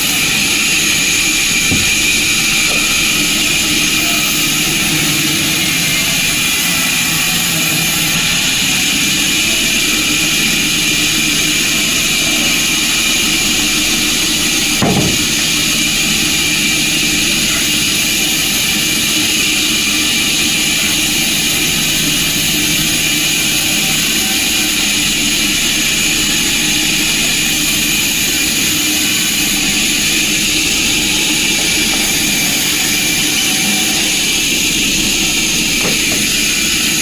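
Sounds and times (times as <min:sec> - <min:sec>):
sawmill machinery running: 0:00.0 - 0:37.0.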